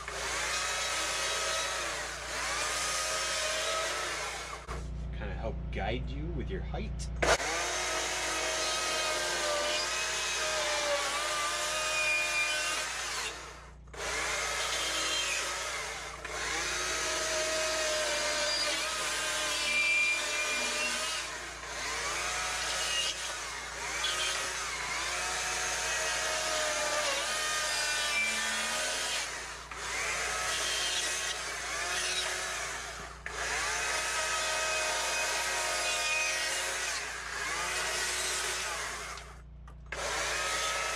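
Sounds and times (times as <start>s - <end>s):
chainsaw cutting wood: 0.0s - 4.8s, 7.2s - 40.9s.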